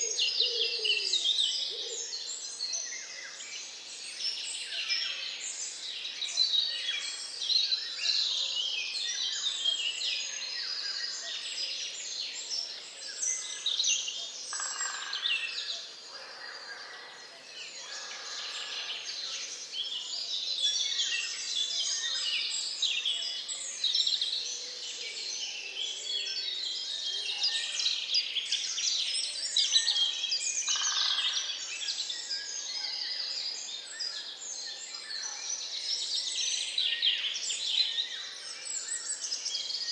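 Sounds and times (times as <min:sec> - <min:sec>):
many birds singing: 0:00.0 - 0:39.9.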